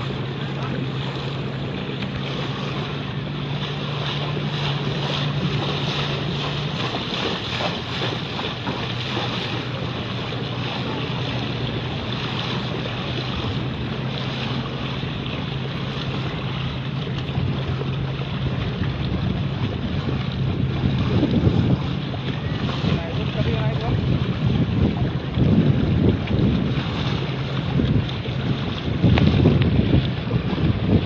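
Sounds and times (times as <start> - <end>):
boat motor humming: 0.0 - 31.0
moving water: 0.0 - 31.0
wind on microphone: 0.0 - 31.0.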